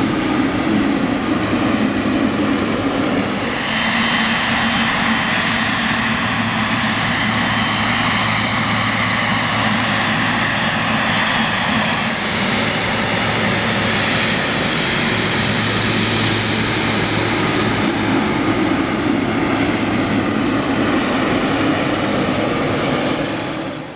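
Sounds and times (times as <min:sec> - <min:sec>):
jet engines running: 0:00.0 - 0:23.9.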